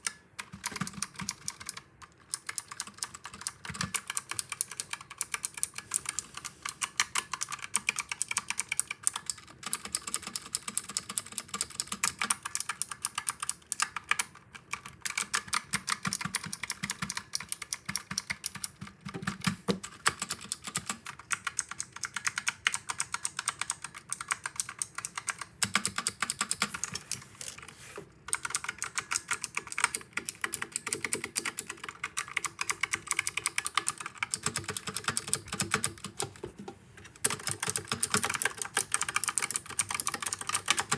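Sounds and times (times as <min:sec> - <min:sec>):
mechanical keyboard typing: 0:00.0 - 0:36.6, 0:37.2 - 0:40.9.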